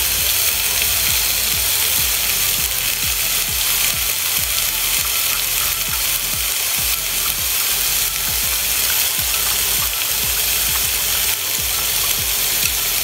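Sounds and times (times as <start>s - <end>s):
food sizzling in a skillet: 0.0s - 13.0s
low pulsing: 0.0s - 13.0s.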